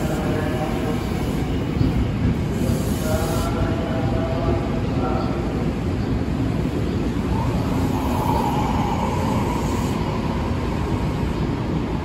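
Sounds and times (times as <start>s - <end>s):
faint train whine: 0.0s - 12.0s
train wheels rumbling: 0.0s - 12.0s.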